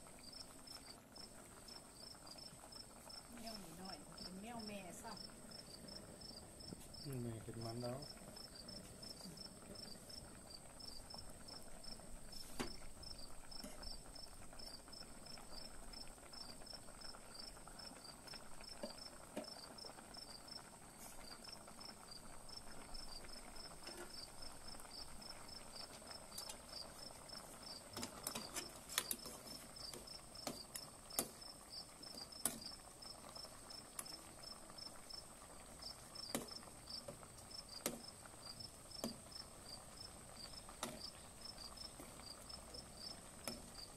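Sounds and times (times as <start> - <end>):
pot bubbling: 0.0 - 43.9
insects chirping: 0.1 - 43.9.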